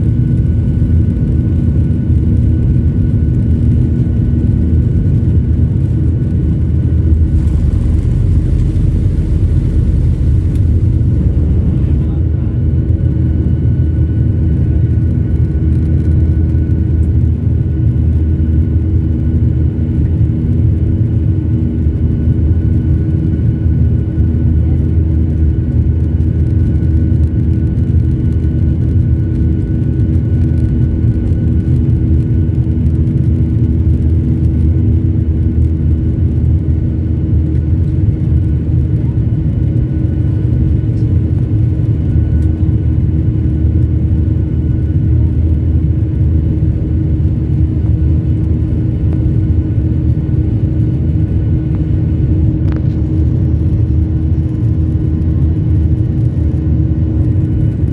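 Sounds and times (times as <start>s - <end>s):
jet engines rumbling: 0.0s - 57.9s.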